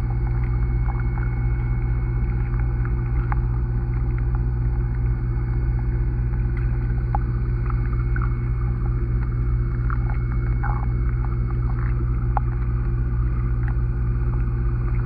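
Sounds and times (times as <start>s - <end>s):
faint clicks and crackles: 0.0s - 15.0s
low underwater hum: 0.0s - 15.0s.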